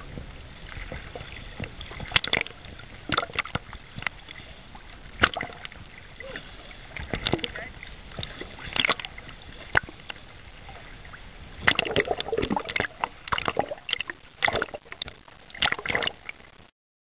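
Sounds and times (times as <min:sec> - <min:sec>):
low hiss of water: 0:00.0 - 0:16.3
sea water splashing: 0:00.0 - 0:16.5.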